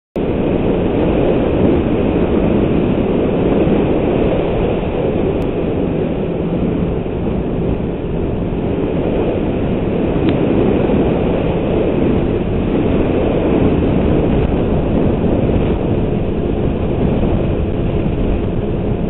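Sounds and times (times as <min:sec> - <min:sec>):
snowmobile engine droning: 0:00.2 - 0:19.0.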